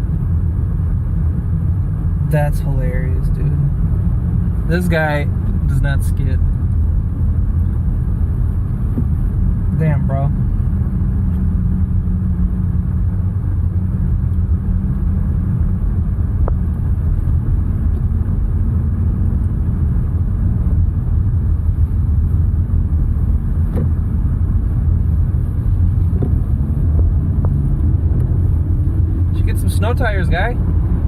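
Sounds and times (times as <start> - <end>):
car running from inside cabin: 0.0 - 31.0.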